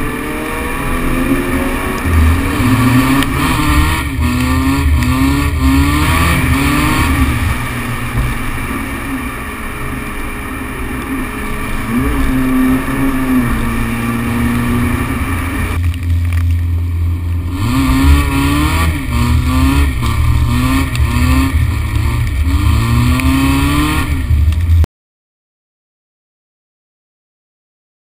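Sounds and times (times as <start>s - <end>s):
car engine revving: 0.0s - 24.9s
road and wind noise: 0.0s - 24.9s.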